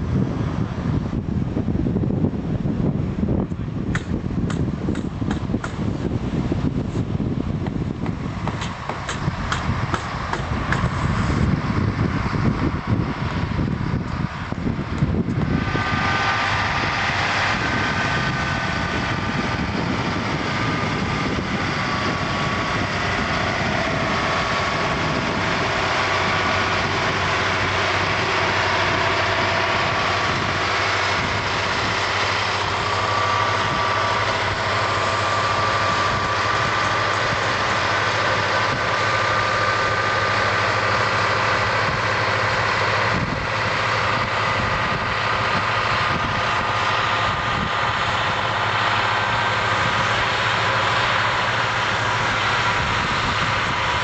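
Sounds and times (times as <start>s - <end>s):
diesel engine running: 0.0s - 54.0s
high whine: 0.0s - 54.0s.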